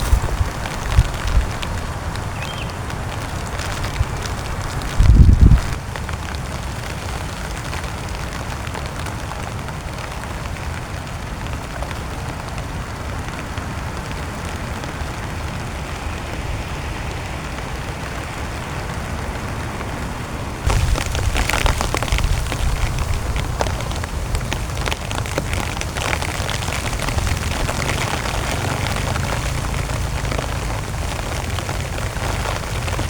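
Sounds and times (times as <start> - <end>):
heavy rain on a tent: 0.0 - 33.0.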